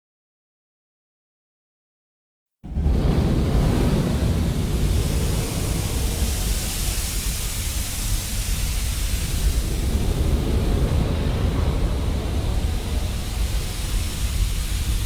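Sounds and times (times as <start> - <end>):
flamethrower fire blast: 2.7 - 15.0
pressurised gas hissing: 2.8 - 15.0.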